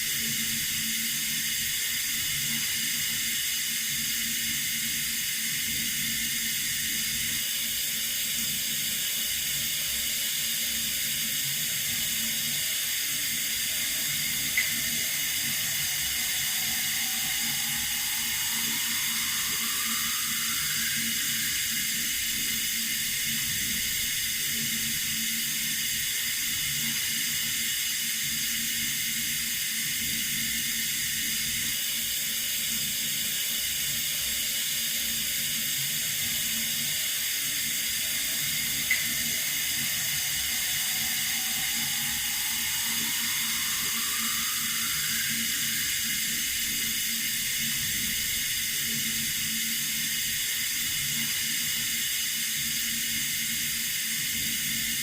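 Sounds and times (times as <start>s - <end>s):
water running from a tap: 0.1s - 31.7s, 35.4s - 55.0s.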